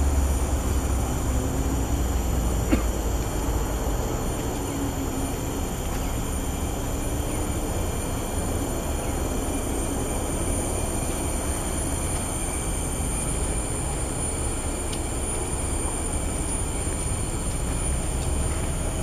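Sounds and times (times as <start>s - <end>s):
faint wavering hum: 0.0s - 19.0s.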